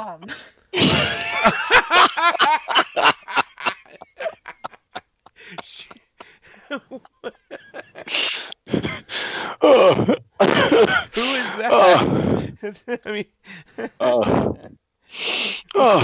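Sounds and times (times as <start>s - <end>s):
people laughing hard: 0.8s - 9.2s, 10.2s - 14.8s.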